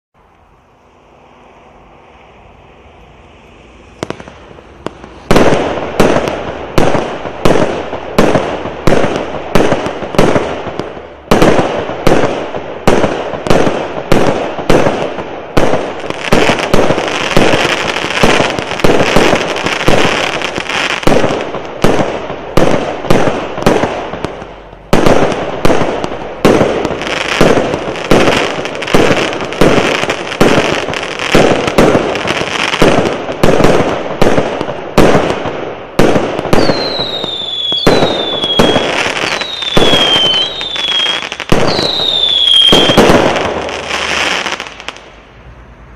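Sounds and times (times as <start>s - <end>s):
fireworks bangs: 0.6s - 45.2s.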